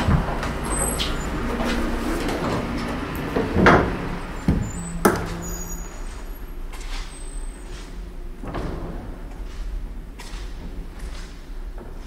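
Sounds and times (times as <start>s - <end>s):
street low rumble: 0.0s - 12.0s.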